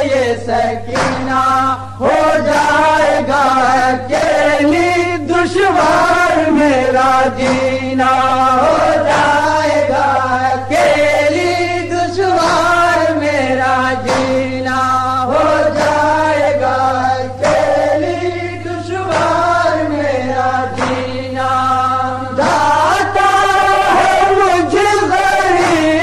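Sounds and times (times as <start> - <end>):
steady low hum: 0.0 - 26.0
voices chanting a lament: 0.0 - 26.0.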